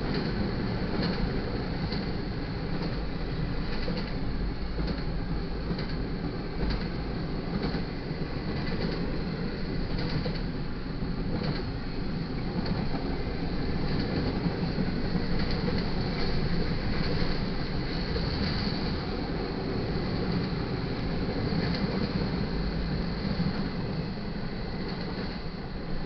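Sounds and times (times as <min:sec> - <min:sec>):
rail clicks: 0:00.0 - 0:26.0
train wheels rumbling on rail: 0:00.0 - 0:26.0.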